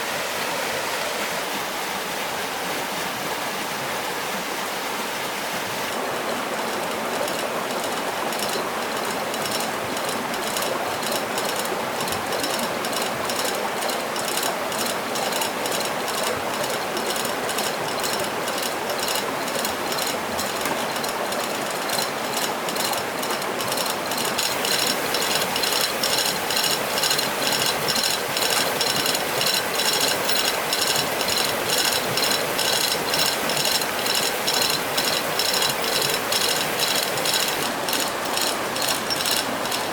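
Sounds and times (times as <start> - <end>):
stream water rushing: 0.0 - 39.9
rapid mechanical clicking: 6.0 - 39.9.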